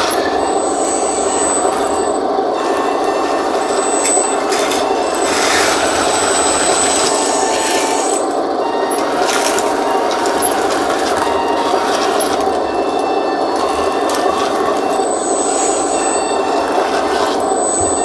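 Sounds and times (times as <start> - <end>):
motors and hydraulic pump humming: 0.0 - 18.0
thin high whine: 0.0 - 18.0.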